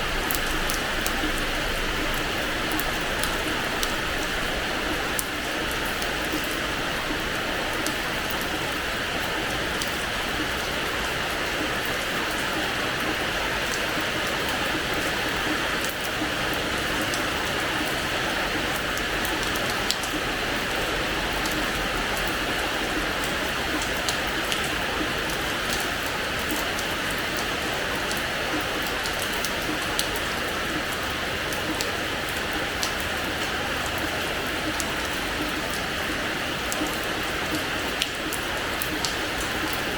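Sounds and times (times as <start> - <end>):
rain falling on a floor: 0.0 - 39.9.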